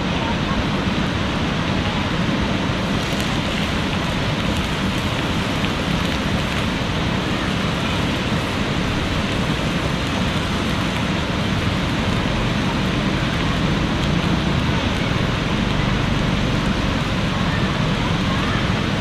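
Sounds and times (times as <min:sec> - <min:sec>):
fast-flowing river rushing: 0:00.0 - 0:19.0.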